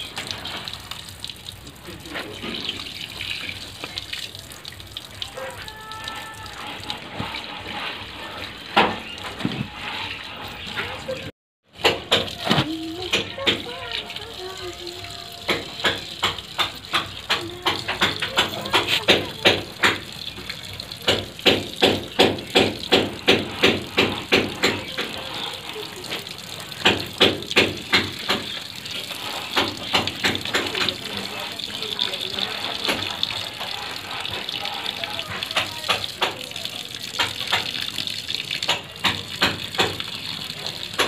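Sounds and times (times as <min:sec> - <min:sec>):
tap water running onto cement: 0:00.0 - 0:41.0
water splashing and dripping: 0:00.0 - 0:41.0.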